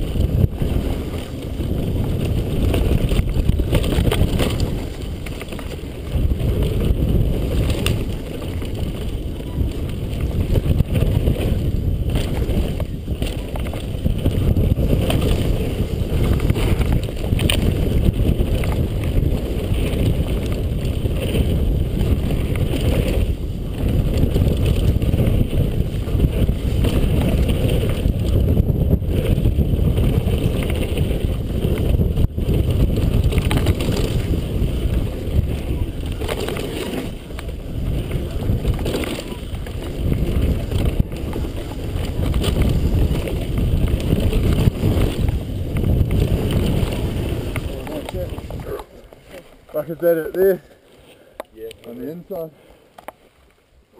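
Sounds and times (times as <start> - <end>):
wind buffeting microphone: 0.0 - 50.8
tyres rumbling on dirt trail: 0.0 - 53.9.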